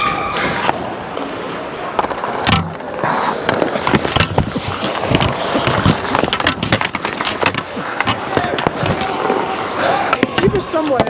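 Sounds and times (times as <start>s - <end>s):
skates scraping on ice: 0.4s - 11.0s
hockey sticks and puck clacking: 1.8s - 11.0s.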